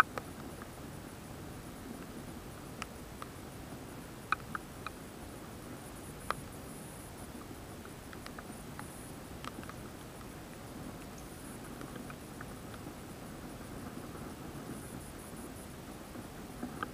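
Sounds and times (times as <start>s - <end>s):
faint muffled hiss: 0.0s - 16.9s.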